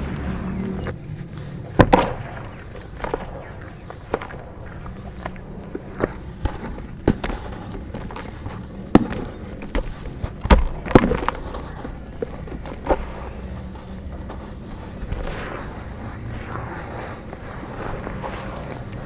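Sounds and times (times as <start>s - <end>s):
dry dirt crunching: 0.0s - 19.0s.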